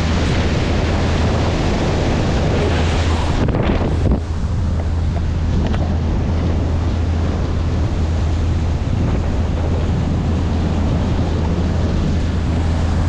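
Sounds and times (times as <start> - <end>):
motorboat engine drone: 0.0 - 13.0
water rushing past hull: 0.0 - 13.0
wind buffeting microphone: 0.0 - 13.0.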